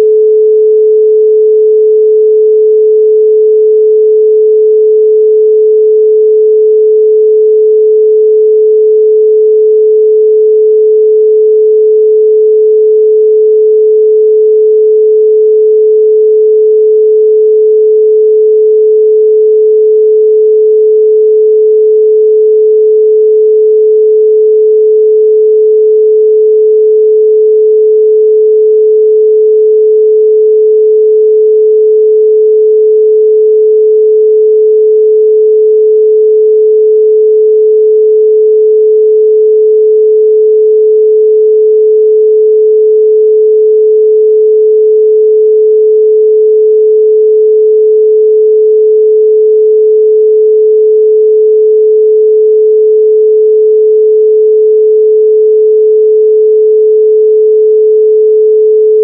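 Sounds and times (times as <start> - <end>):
pure sine tone: 0.0 - 59.0.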